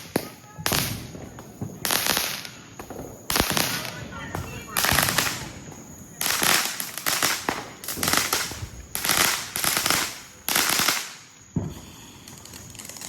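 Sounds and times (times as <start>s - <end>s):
firework bang: 0.0s - 13.0s
fireworks crackling pops: 0.0s - 13.0s.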